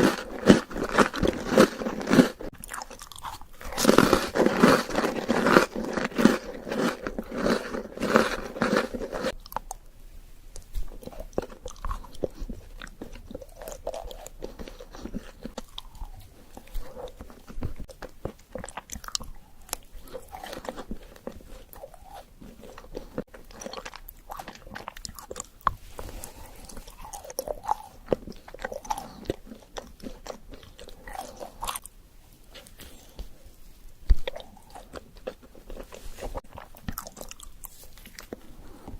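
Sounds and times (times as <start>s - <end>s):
crunching and chewing: 0.0s - 9.9s, 10.5s - 38.9s.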